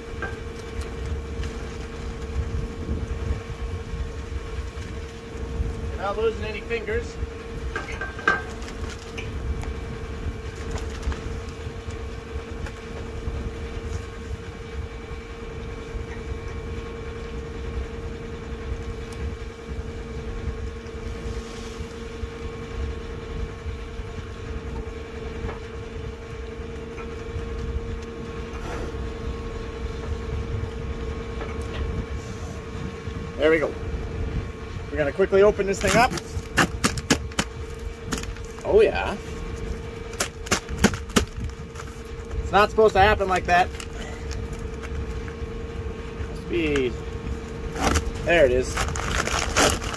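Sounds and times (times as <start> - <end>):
machine humming: 0.0 - 49.9.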